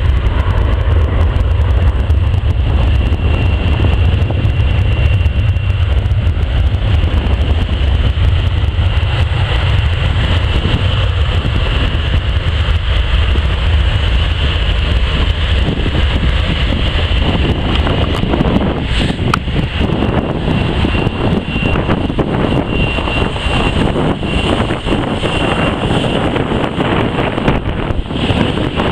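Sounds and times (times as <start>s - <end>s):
jet engine roar with whine: 0.0s - 28.9s
wind rumbling on microphone: 0.0s - 28.9s.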